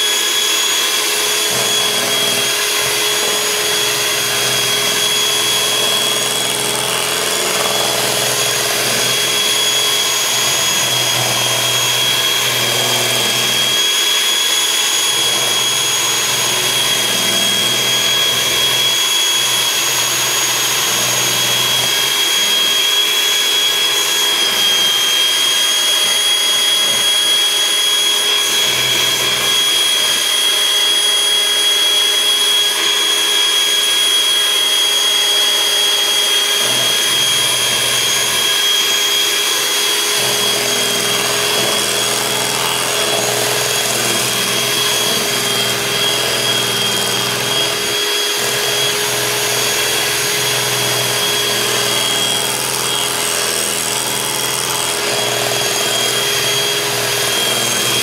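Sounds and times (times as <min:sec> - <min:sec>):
electric hand mixer whipping batter: 0:00.0 - 0:58.0.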